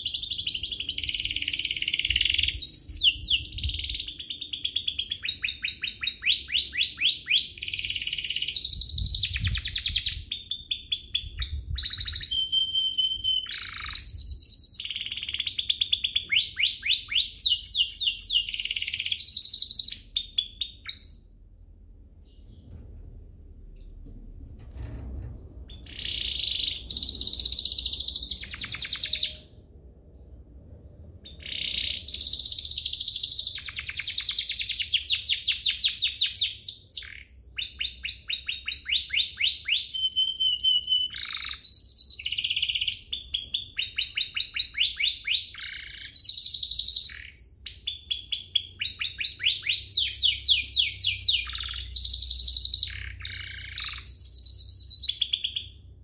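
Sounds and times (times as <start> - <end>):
canary trilling: 0.0 - 21.3, 25.7 - 29.5, 31.2 - 55.9.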